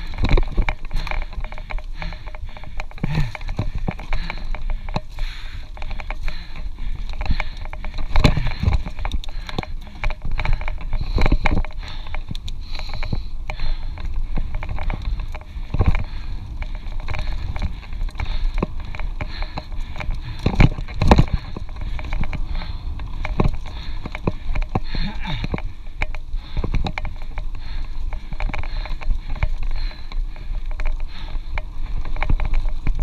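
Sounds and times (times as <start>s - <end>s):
bike clattering and rattling: 0.0s - 33.0s
tyres rumbling on dirt: 0.0s - 33.0s.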